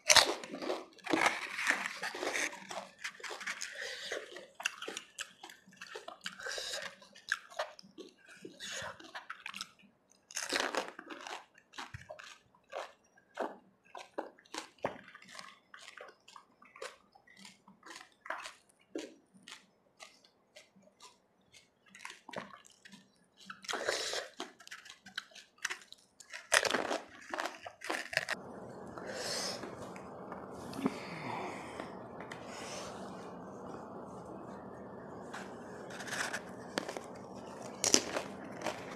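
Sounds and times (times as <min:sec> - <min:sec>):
crisp shells crunching chewed: 0:00.0 - 0:38.9.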